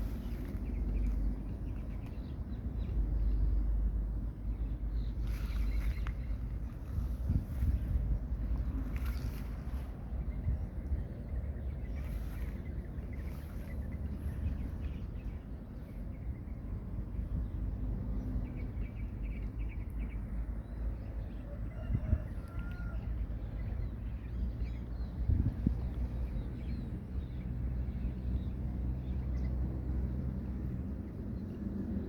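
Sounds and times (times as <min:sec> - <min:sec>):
low outdoor rumble: 0:00.0 - 0:32.0.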